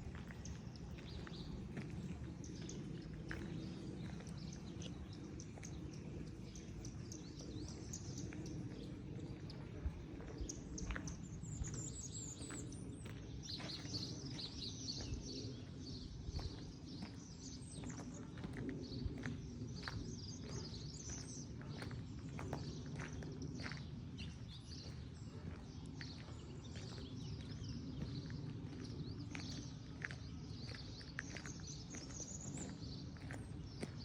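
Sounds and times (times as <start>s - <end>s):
low rumble of city noise: 0.0s - 34.0s
songbirds chirping: 0.0s - 34.0s.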